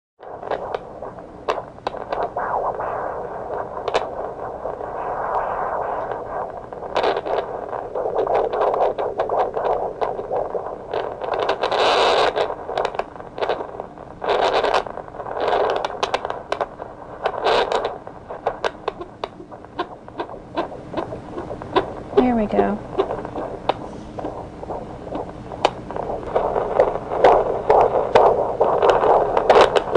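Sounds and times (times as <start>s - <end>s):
doppler monitor hiss: 0.2s - 29.9s
probe scrapes and crackles: 0.2s - 29.9s.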